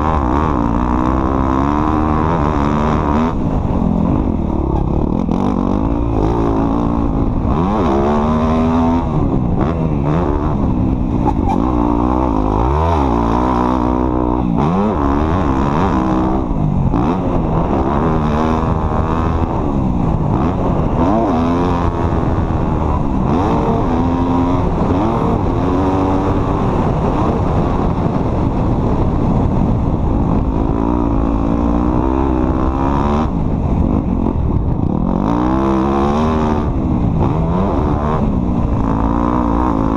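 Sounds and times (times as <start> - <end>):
constant low rumble: 0.0 - 39.9
off-road vehicle engine revving: 0.0 - 39.9.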